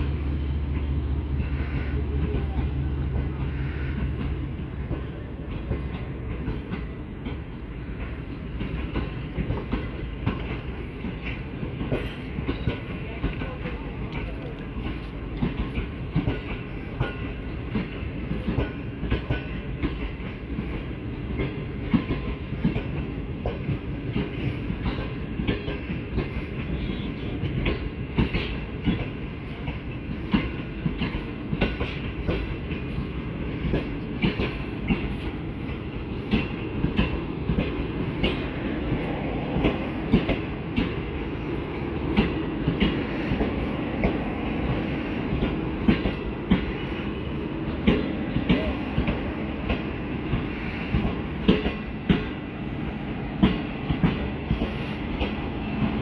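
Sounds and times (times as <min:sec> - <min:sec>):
train rumble: 0:00.0 - 0:56.0
train wheels clattering on rails: 0:00.0 - 0:56.0.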